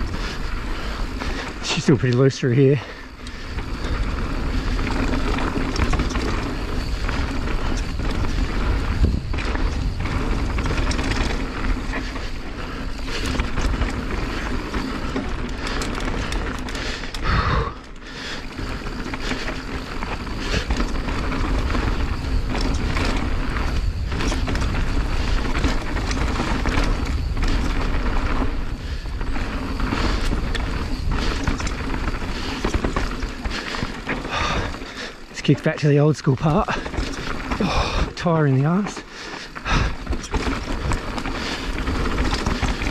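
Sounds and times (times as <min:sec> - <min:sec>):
wind buffeting microphone: 0:00.0 - 0:38.2
bike rattling over bumps: 0:00.0 - 0:42.9
tyres skidding over loose dirt: 0:00.0 - 0:42.9.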